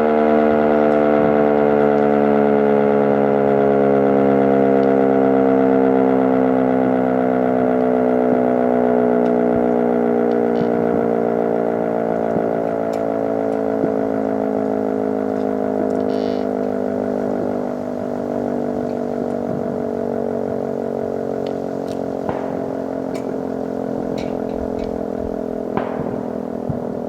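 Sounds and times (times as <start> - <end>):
warning siren winding down: 0.0 - 27.0.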